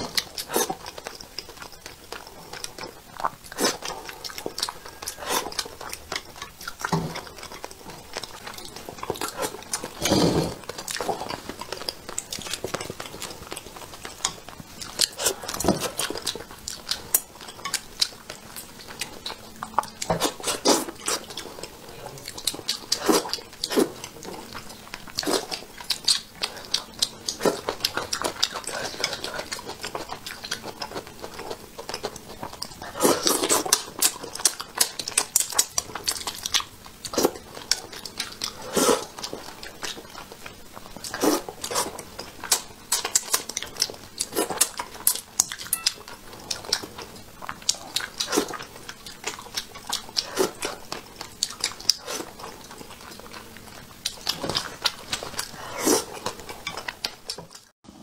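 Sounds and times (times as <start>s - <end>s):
chewing and eating: 0.0s - 58.0s.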